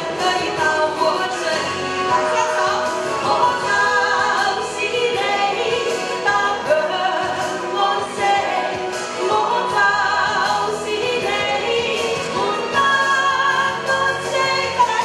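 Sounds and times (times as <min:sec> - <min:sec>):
musical accompaniment: 0:00.0 - 0:15.0
woman singing into microphone: 0:00.0 - 0:15.0.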